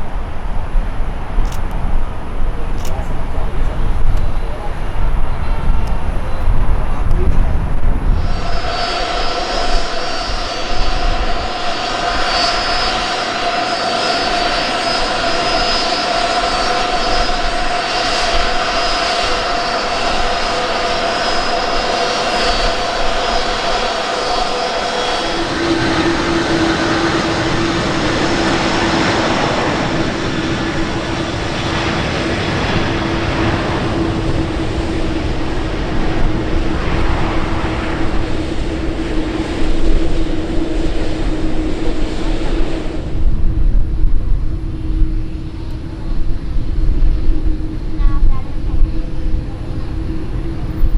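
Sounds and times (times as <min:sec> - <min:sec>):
airplane engines passing: 0:00.0 - 0:50.9.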